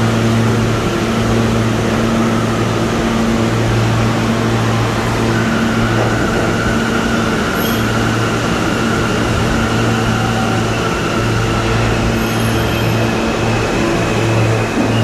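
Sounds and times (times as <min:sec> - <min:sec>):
subway train electrical hum: 0:00.0 - 0:15.0.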